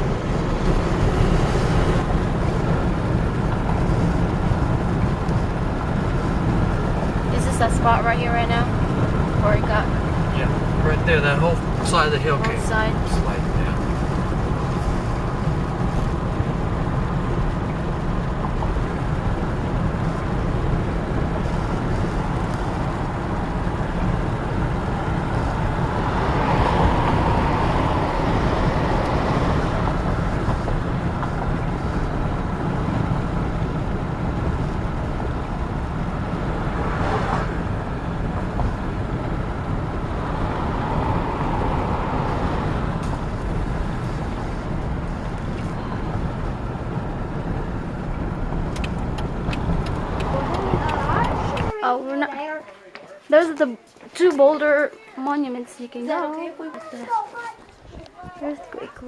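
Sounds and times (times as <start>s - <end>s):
car driving road noise: 0.0s - 59.0s.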